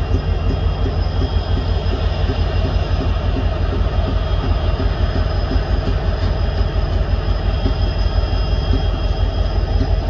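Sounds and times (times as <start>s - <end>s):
locomotive engines rumbling: 0.0s - 10.0s.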